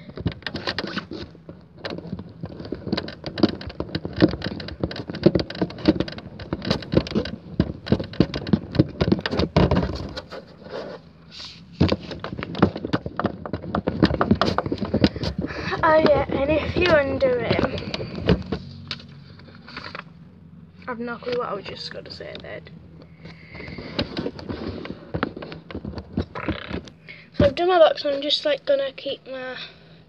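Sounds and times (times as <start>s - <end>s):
paper rustling and crinkling: 0.0s - 20.1s, 23.0s - 28.3s.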